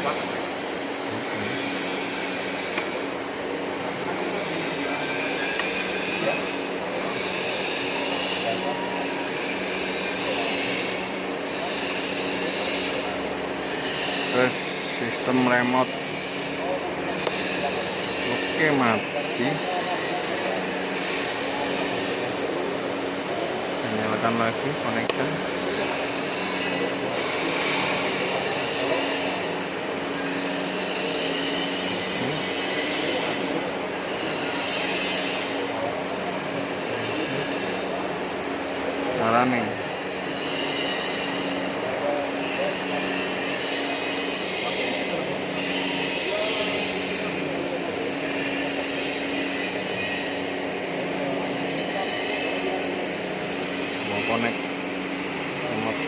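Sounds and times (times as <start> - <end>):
heavy machinery humming: 0.0 - 56.0
low drone: 0.0 - 56.0.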